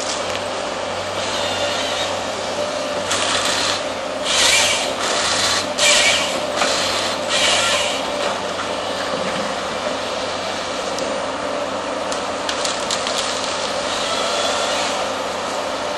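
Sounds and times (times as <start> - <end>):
excavator engine running: 0.0 - 15.9.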